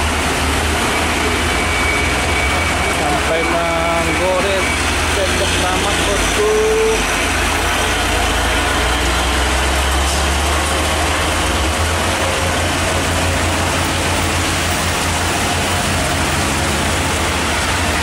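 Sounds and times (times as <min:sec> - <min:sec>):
diesel truck engine running: 0:00.0 - 0:18.0
heavy rain hissing: 0:00.0 - 0:18.0.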